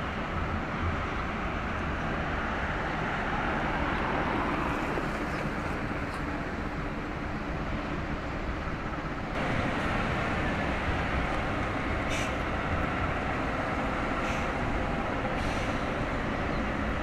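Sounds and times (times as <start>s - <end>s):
low rumble of distant engines: 0.0s - 17.0s
wind and water hiss: 0.0s - 17.0s.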